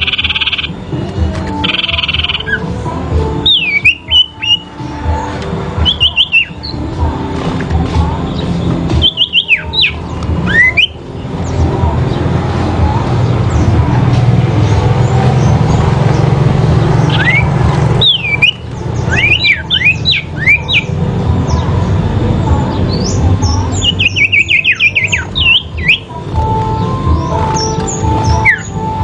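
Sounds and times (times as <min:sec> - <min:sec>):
songbirds whistling calls: 0:00.0 - 0:07.2, 0:08.0 - 0:29.0.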